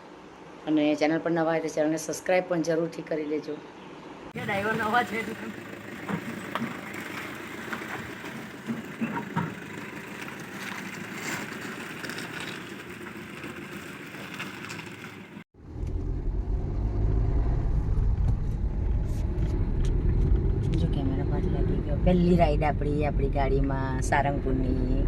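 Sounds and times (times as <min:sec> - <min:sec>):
car interior rumble: 0:04.4 - 0:25.0.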